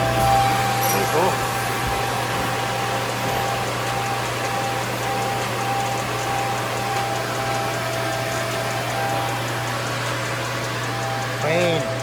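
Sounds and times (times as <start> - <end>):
edge banding machine humming: 0.0 - 12.0.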